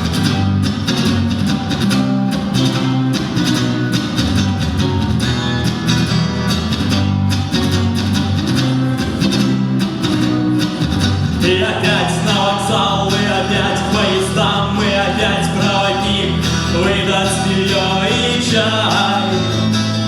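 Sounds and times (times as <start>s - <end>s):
bass line: 0.0s - 20.0s
strummed guitar chords: 0.0s - 20.0s.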